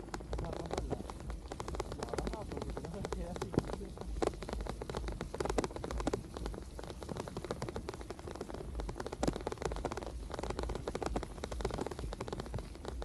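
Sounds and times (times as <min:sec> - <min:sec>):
rain ticking on camera: 0:00.0 - 0:13.0
wind and riding rumble: 0:00.0 - 0:13.0.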